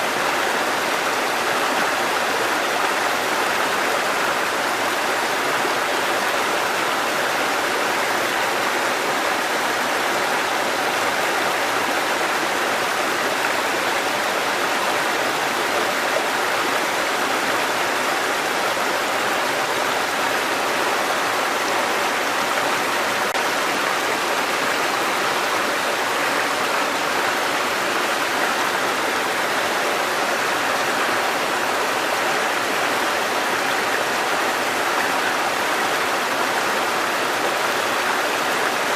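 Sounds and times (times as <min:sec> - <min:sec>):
stream water cascading over rocks: 0:00.0 - 0:38.9.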